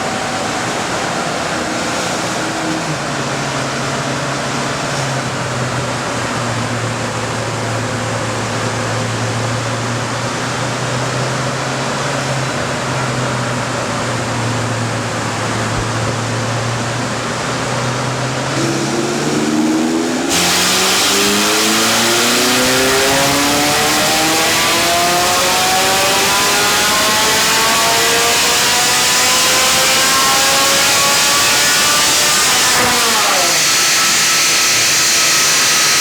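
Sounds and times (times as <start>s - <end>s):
car engine revving on dyno: 0.0s - 36.0s.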